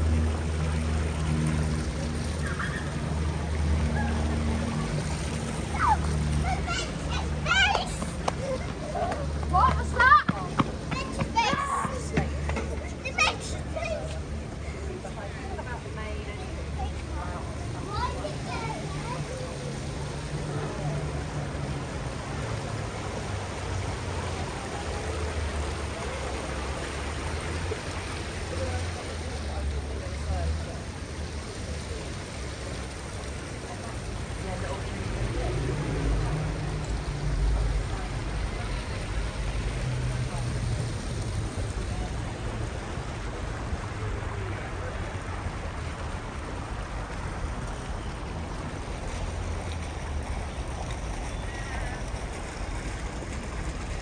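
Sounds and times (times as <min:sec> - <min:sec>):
fountain jets splashing: 0:00.0 - 0:54.0.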